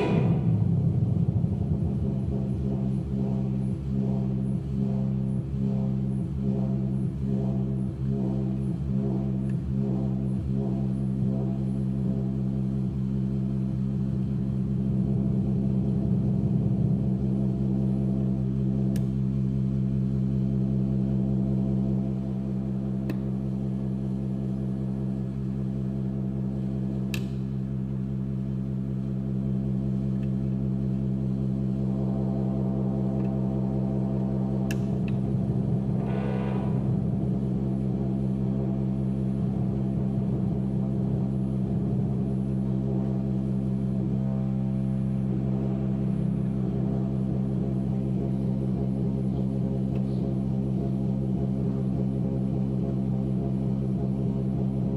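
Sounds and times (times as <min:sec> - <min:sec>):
synthesizer low drone: 0:00.0 - 0:54.9.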